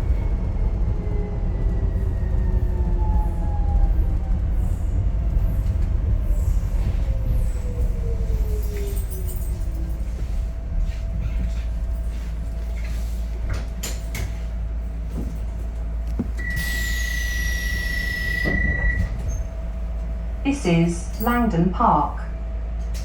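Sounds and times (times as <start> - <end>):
train rumble and motor whine: 0.0 - 23.0.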